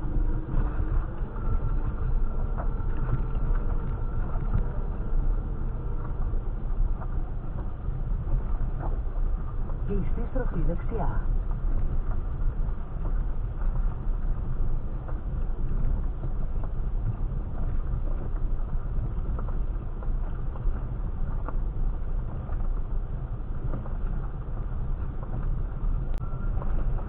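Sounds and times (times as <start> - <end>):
car engine low rumble: 0.0 - 27.0.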